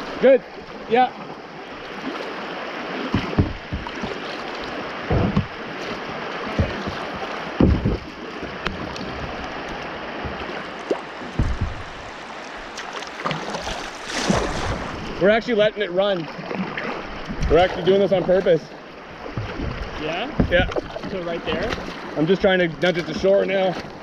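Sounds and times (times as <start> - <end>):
low thumps and splashes: 0.0 - 24.0
river water rushing against a hull: 0.0 - 24.0.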